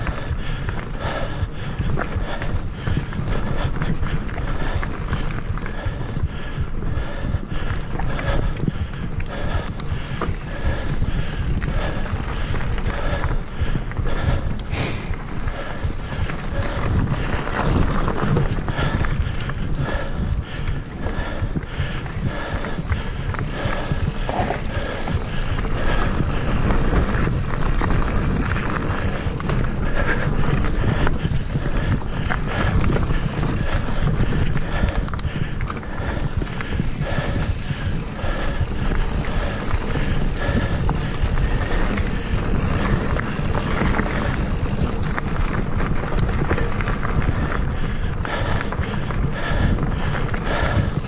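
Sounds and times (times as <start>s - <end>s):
bike rattling and clicking: 0.0s - 51.0s
bike tyres on dirt and leaves: 0.0s - 51.0s.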